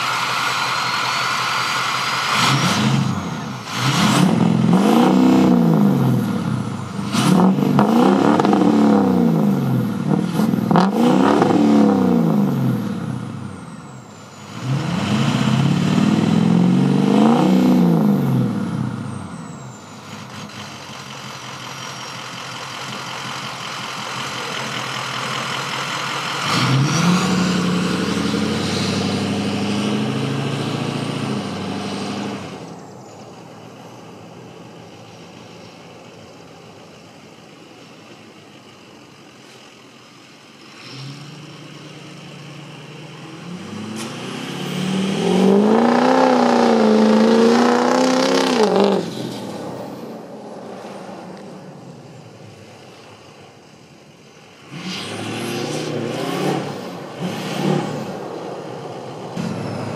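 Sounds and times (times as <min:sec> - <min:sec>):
diesel truck engine revving: 0:00.0 - 0:59.9
truck driving off: 0:00.0 - 0:59.9.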